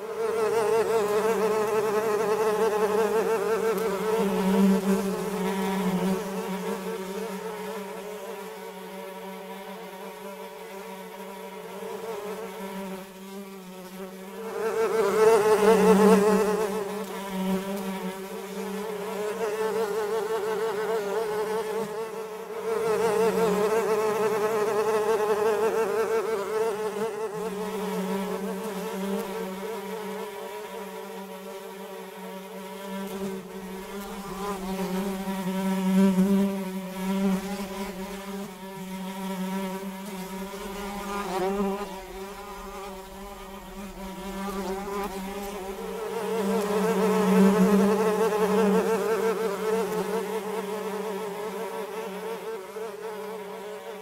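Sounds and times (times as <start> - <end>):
flies buzzing: 0.0 - 54.0.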